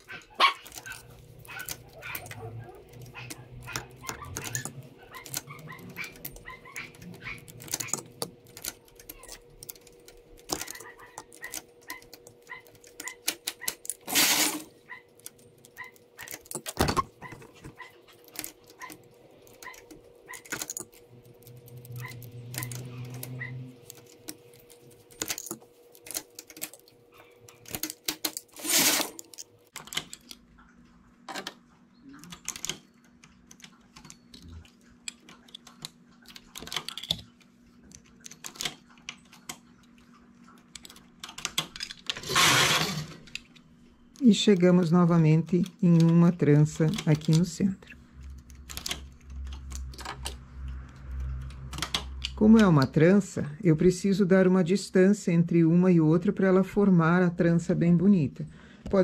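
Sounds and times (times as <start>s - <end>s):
knitting machine needles clicking: 0.0s - 30.7s, 31.3s - 54.5s.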